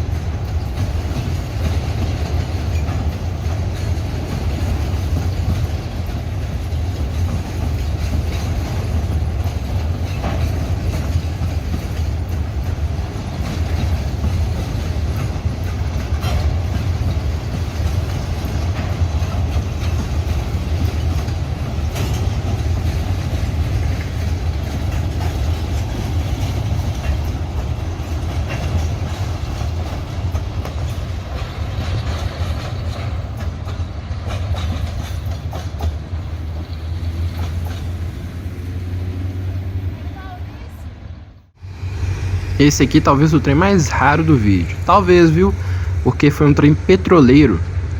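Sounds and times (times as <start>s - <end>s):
wheels clicking over rail joints: 0.0s - 39.4s
freight train rumbling: 0.0s - 47.9s.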